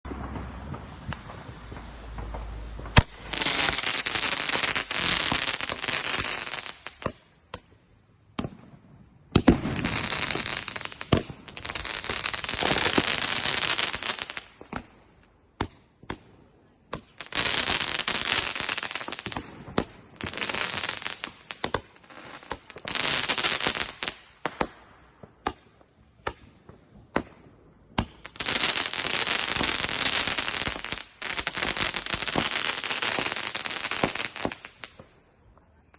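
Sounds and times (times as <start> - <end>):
fireworks crackling: 0.0 - 7.6, 8.3 - 35.9
firework bangs: 0.0 - 7.7, 8.3 - 16.3, 16.9 - 35.2.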